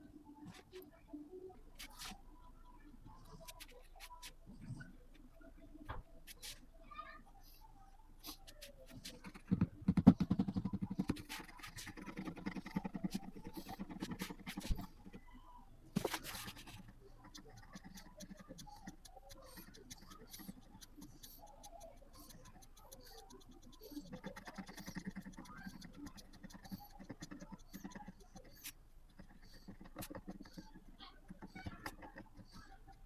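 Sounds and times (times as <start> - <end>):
pencil scratching on paper: 1.7 - 2.2, 3.2 - 5.0, 6.2 - 6.7, 7.5 - 15.3, 16.0 - 33.0.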